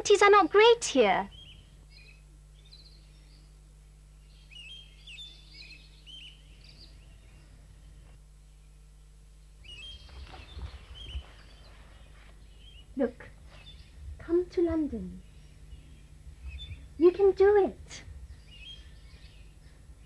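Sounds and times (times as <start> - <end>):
faint low hum: 0.0 - 20.0
small birds chirping: 0.0 - 20.0.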